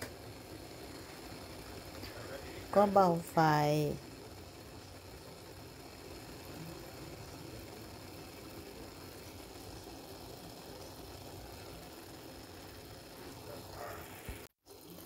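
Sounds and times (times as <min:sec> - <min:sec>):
pot of water bubbling: 0:00.0 - 0:15.0.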